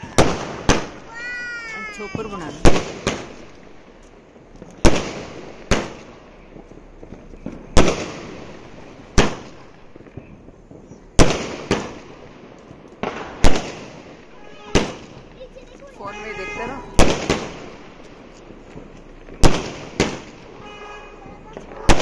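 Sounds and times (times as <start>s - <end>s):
firework pops and crackle: 0.0s - 16.1s, 16.9s - 22.0s
firework bangs: 0.0s - 22.0s.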